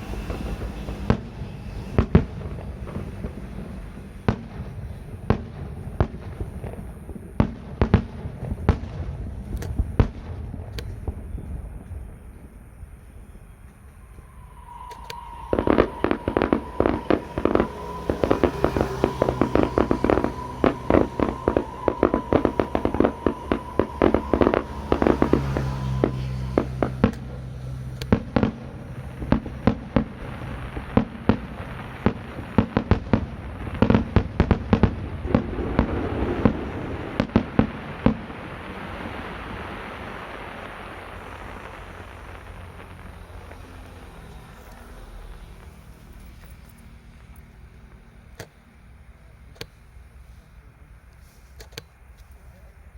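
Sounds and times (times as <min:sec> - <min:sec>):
fireworks banging: 0:00.0 - 0:47.4
fireworks crackling: 0:00.0 - 0:48.6.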